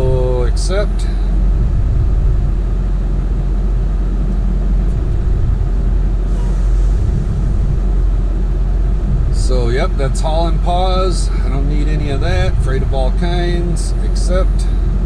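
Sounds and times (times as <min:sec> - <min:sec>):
pickup truck idling: 0:00.0 - 0:15.0.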